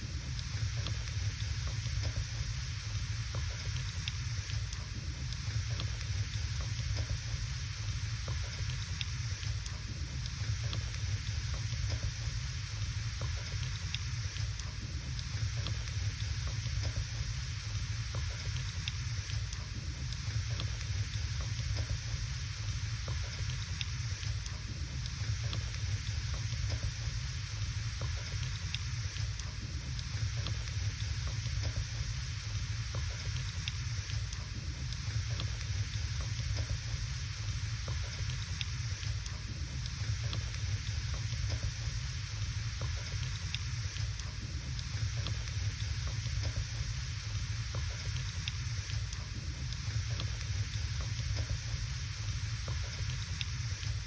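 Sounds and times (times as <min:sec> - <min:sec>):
wood fire crackling and hissing: 0:00.0 - 0:54.0.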